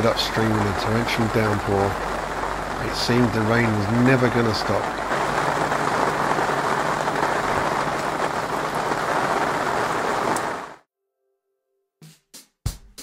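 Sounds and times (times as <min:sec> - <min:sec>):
torrential rain on water and deck: 0:00.0 - 0:10.8.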